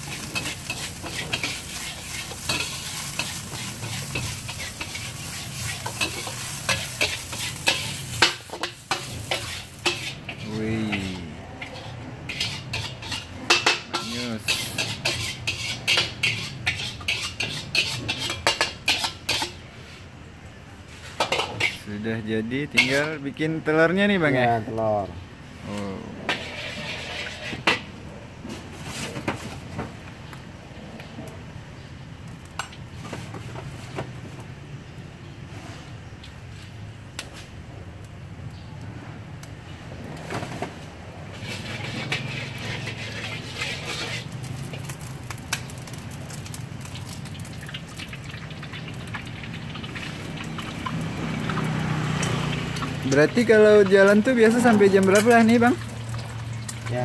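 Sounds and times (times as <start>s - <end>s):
hot oil crackling in a wok: 0.0s - 19.8s, 20.5s - 25.1s, 26.3s - 28.0s, 31.8s - 35.1s, 35.9s - 57.0s.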